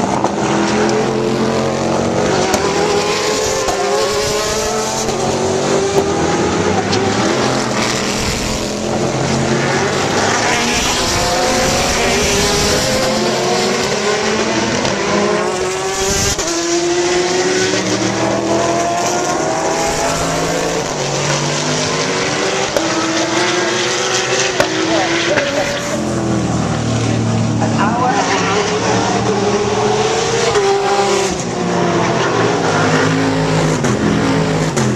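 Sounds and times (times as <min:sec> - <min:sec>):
race cars at full throttle: 0:00.0 - 0:34.9.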